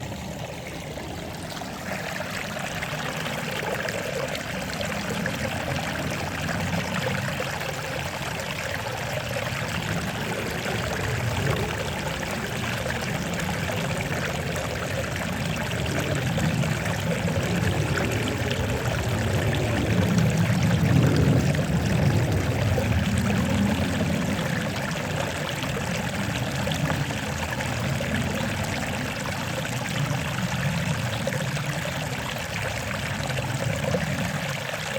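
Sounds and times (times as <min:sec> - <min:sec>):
water flowing and trickling: 0:00.0 - 0:34.9.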